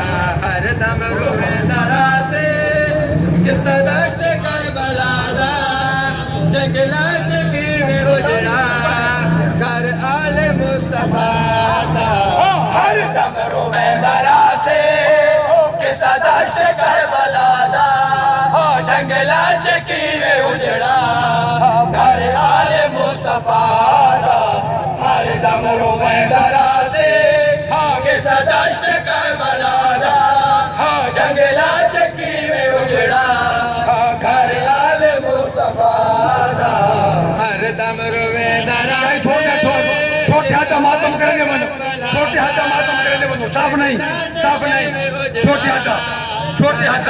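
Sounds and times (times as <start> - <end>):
men chanting a mourning lament: 0.0 - 47.0.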